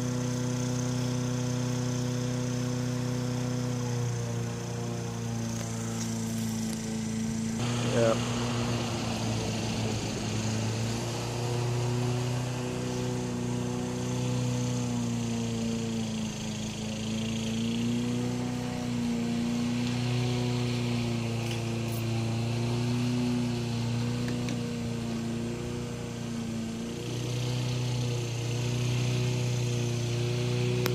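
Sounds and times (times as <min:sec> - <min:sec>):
engine humming: 0:00.0 - 0:30.9.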